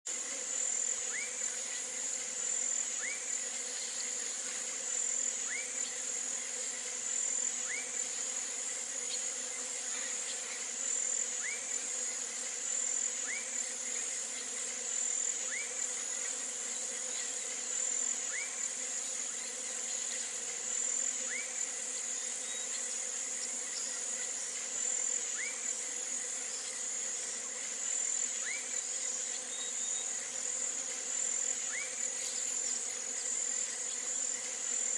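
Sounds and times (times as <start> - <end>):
insect chorus drone: 0.1 - 34.9.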